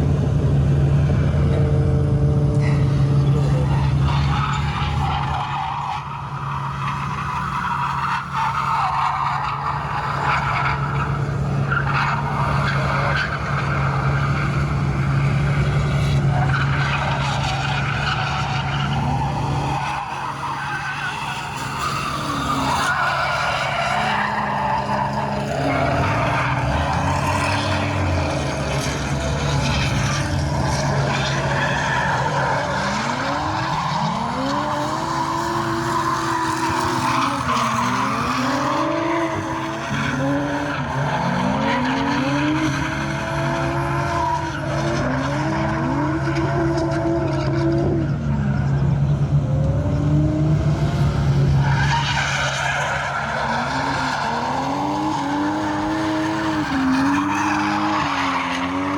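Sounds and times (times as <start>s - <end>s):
car engine at high revs: 0.0s - 58.9s.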